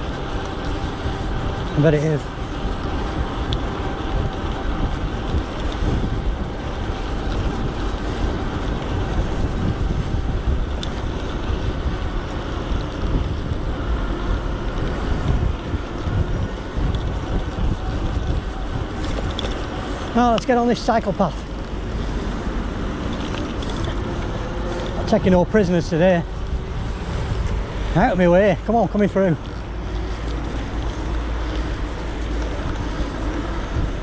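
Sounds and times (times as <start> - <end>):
road noise: 0.0 - 34.0
wind buffeting microphone: 0.0 - 34.0.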